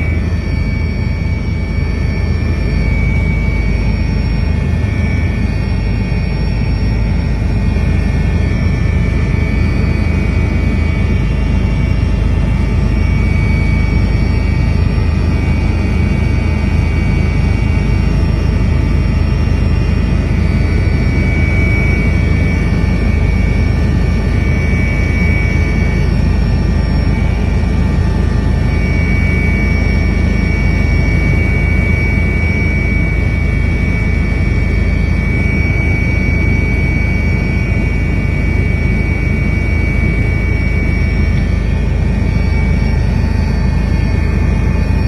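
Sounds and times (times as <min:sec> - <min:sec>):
helicopter high whine: 0:00.0 - 0:45.0
helicopter rumble: 0:00.0 - 0:45.0.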